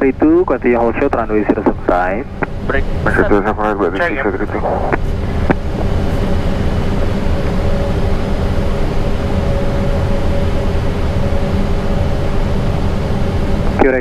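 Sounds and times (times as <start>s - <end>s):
faint steady hums: 0.0s - 14.0s
low rumble: 0.0s - 14.0s.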